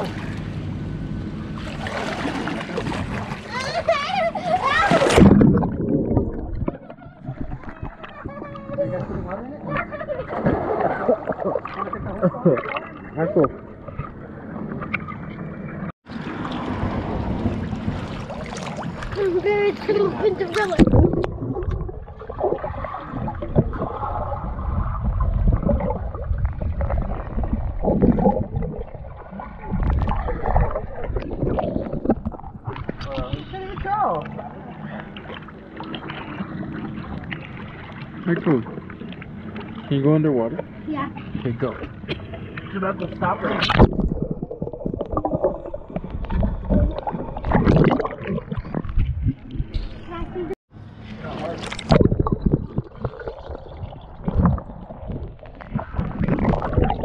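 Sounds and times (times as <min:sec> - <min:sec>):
underwater rumble and bubbling: 0:00.0 - 0:57.0
water sloshing: 0:01.4 - 0:57.0.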